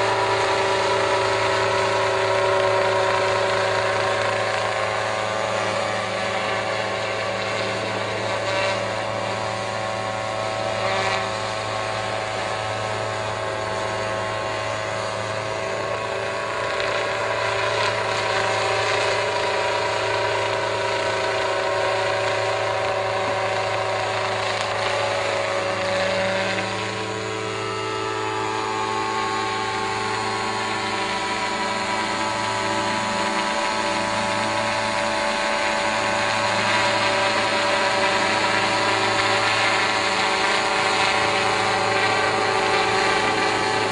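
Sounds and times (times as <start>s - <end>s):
motorized sprayer humming: 0.0s - 43.9s.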